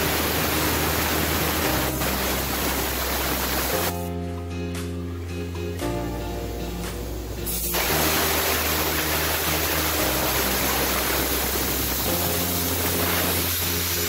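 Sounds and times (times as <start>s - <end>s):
loud steady hiss: 0.0s - 4.1s, 6.3s - 14.0s
background music with bass line: 0.0s - 14.0s.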